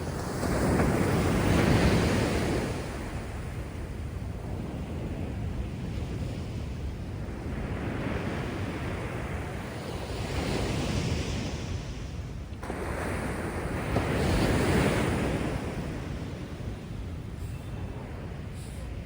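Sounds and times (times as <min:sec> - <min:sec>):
heavy surf breaking on beach: 0:00.0 - 0:19.0
wind rumble on microphone: 0:00.0 - 0:19.0.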